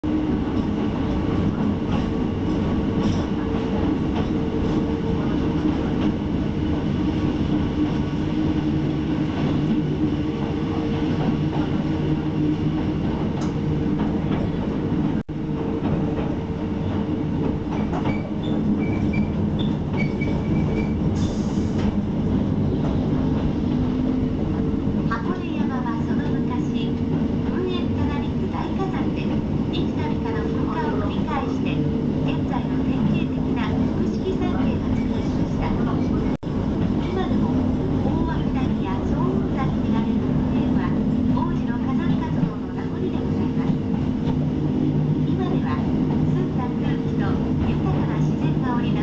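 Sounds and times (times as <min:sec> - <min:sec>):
train rumble and hum: 0:00.0 - 0:49.0
rail clicks: 0:00.1 - 0:49.0.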